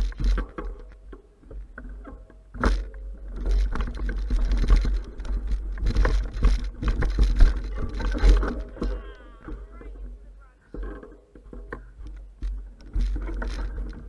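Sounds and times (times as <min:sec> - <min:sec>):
bike rattling over rough ground: 0:00.0 - 0:14.0.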